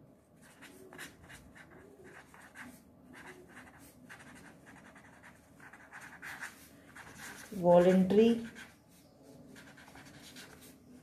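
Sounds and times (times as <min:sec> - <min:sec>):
marker pen scratching on paper: 0:00.4 - 0:11.0.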